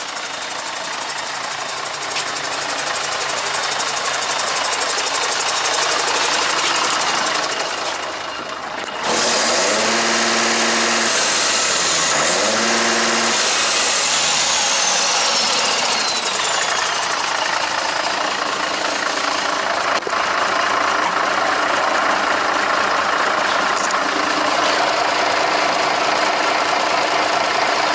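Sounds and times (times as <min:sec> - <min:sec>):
diesel truck engine revving: 0:00.0 - 0:27.9.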